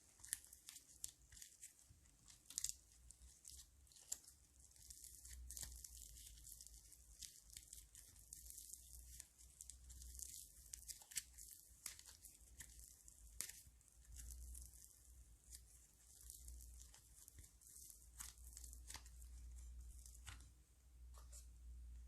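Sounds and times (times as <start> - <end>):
slime crackling and popping: 0.0 - 20.6.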